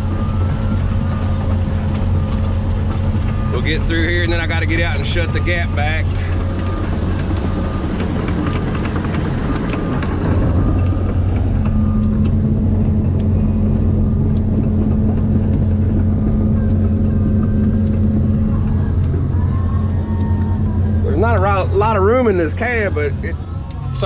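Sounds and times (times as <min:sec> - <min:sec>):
excavator diesel engine humming: 0:00.0 - 0:24.0
sharp clicks and clanks: 0:00.3 - 0:21.6.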